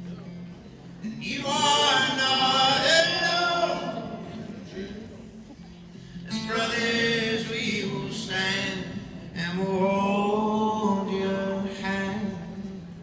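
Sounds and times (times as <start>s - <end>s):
man singing slow phrases: 1.0s - 4.8s, 6.2s - 13.0s.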